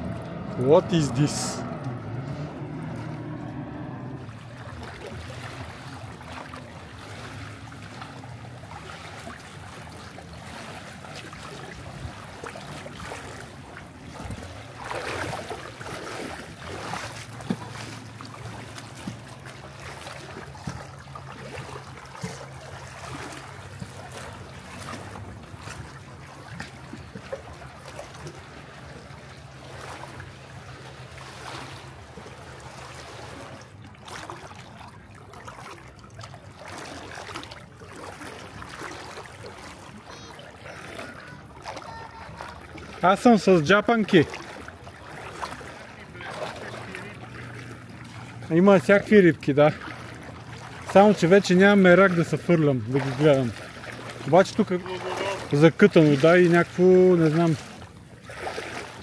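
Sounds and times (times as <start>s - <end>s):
low motor hum: 0.0s - 59.0s
small waves lapping at shore: 0.0s - 59.0s.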